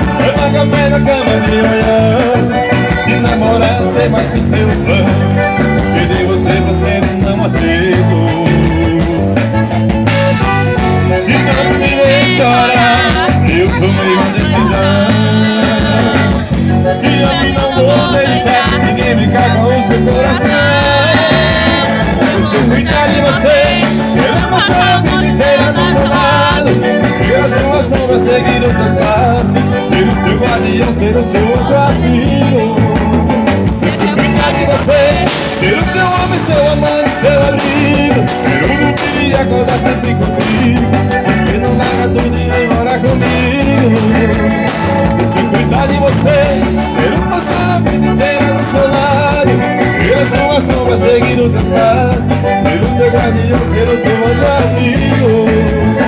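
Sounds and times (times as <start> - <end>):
accordion: 0.0 - 56.0
bass guitar: 0.0 - 56.0
electric guitars: 0.0 - 56.0.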